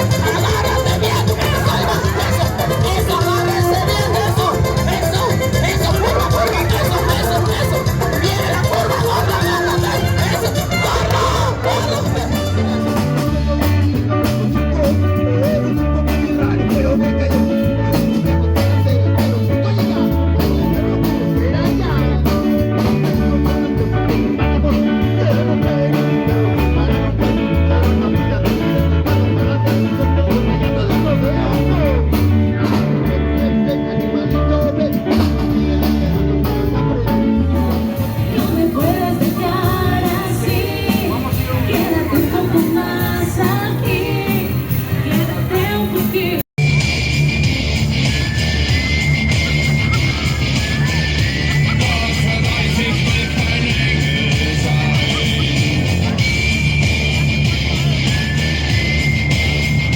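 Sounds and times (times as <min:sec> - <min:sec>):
person singing: 0:00.0 - 0:46.5, 0:51.4 - 0:56.2
band playing guitar bass and drums: 0:00.0 - 0:59.9.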